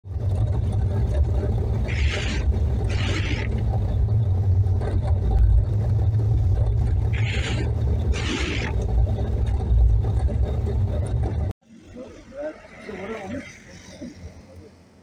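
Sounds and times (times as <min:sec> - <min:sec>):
car driving on snow: 0:00.1 - 0:15.0.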